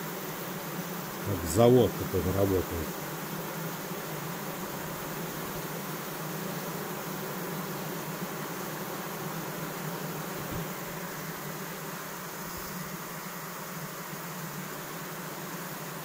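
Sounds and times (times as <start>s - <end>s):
honeybee colony humming: 0.0s - 16.0s.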